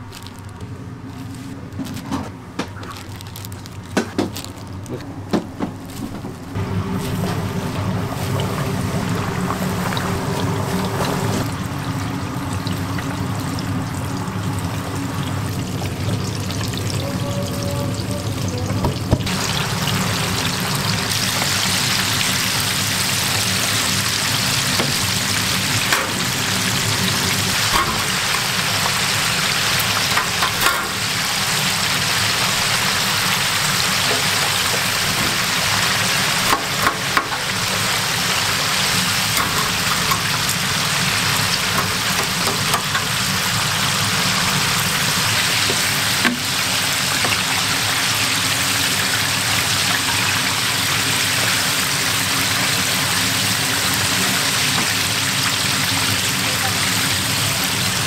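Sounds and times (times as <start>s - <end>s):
chicken deep-frying sizzle: 6.4s - 58.0s.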